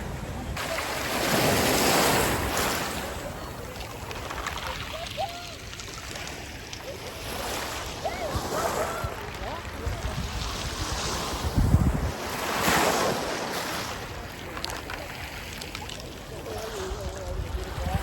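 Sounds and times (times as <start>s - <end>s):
wave breaking on shore: 0.6s - 18.0s.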